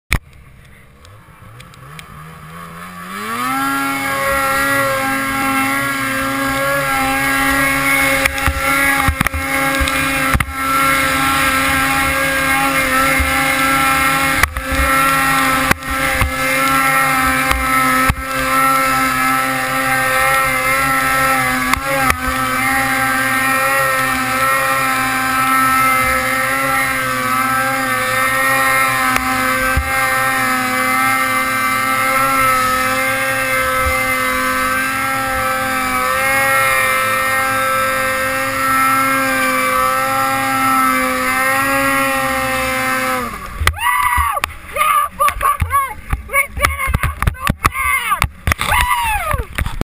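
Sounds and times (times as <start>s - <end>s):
snowmobile engine revving: 0.2s - 49.9s.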